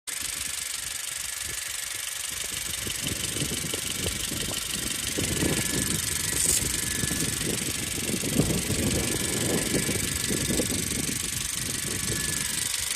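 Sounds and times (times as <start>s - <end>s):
car rattling: 1.3s - 12.9s.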